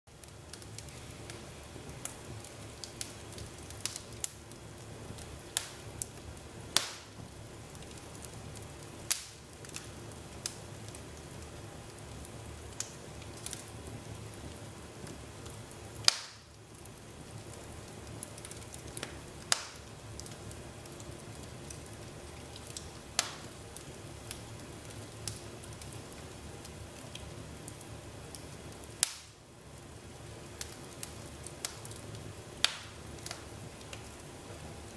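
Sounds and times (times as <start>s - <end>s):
fire crackling and popping: 0.1s - 34.9s
low rush of flames: 0.1s - 34.9s.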